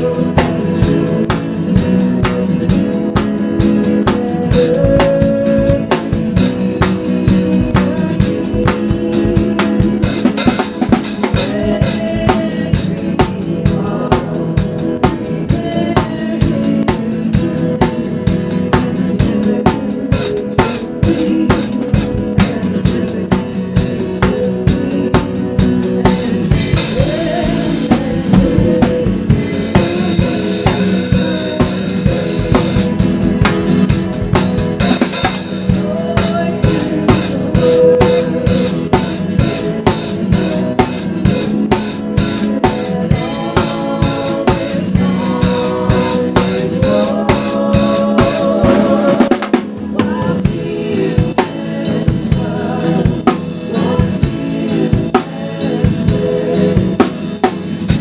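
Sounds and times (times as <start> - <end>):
drum kit beat: 0.0 - 58.0
worship band music: 0.0 - 58.0.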